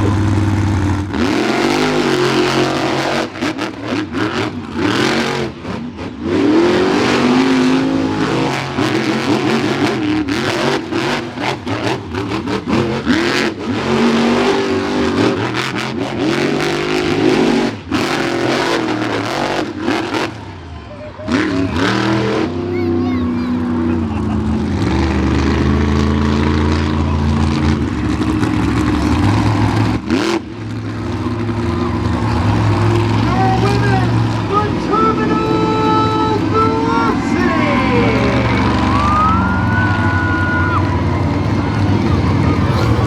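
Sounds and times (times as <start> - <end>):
monster truck engines revving: 0.0 - 43.0.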